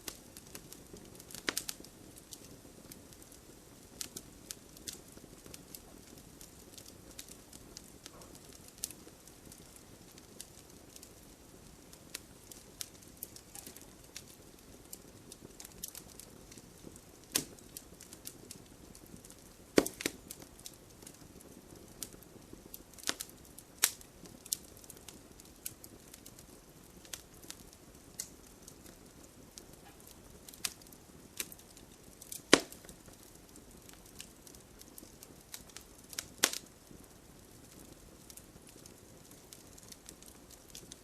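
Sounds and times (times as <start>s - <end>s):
low hiss of fire: 0.0s - 41.0s
wood fire crackling and popping: 0.0s - 41.0s.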